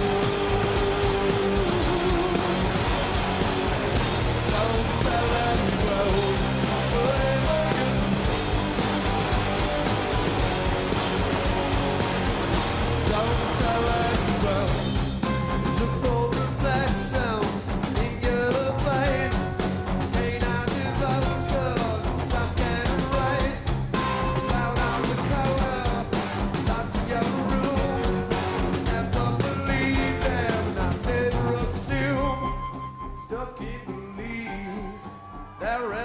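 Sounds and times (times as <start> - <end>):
man singing lead vocal: 0.0 - 3.1, 4.4 - 8.5, 13.0 - 36.0
bass guitar: 0.0 - 36.0
electric guitar: 0.0 - 36.0
rock drumming: 0.0 - 36.0.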